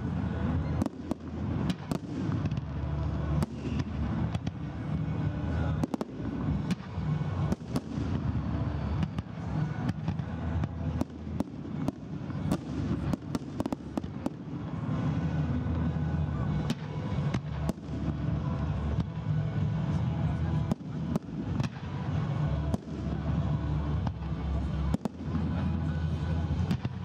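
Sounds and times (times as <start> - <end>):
fireworks bursting with sharp bangs: 0.0 - 27.0
steady low background noise: 0.0 - 27.0.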